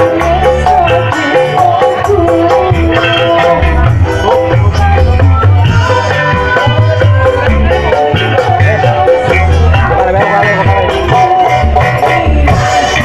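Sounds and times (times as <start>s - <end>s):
heavy bass line: 0.0s - 13.0s
loud music over pa system: 0.0s - 13.0s.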